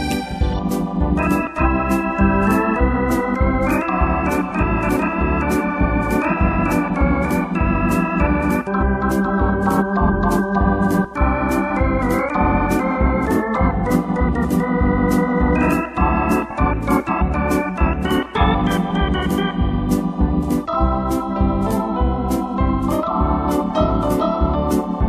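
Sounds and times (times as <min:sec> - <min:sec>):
electronic keyboard organ chords: 0:00.0 - 0:25.0
pulsing bass: 0:00.0 - 0:25.0.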